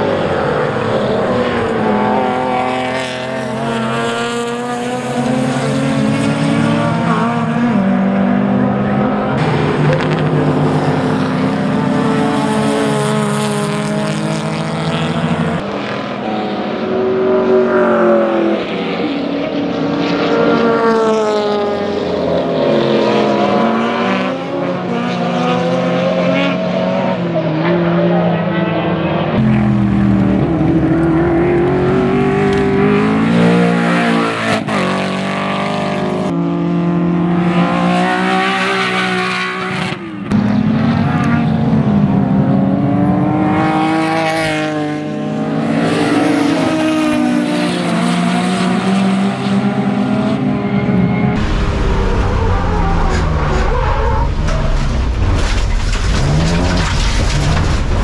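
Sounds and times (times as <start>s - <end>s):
racing car engines revving past: 0.0s - 58.0s.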